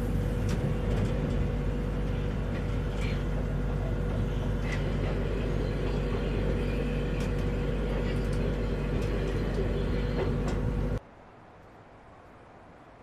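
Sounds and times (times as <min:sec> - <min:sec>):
electrical hum: 0:00.0 - 0:11.0
train rumble: 0:00.0 - 0:11.0.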